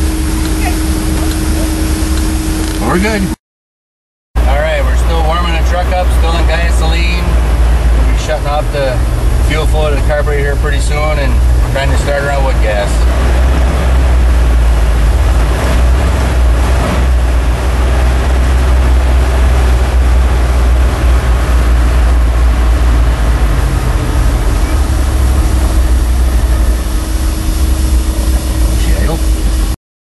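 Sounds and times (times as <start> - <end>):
truck engine idling: 0.0 - 3.4, 4.4 - 29.8.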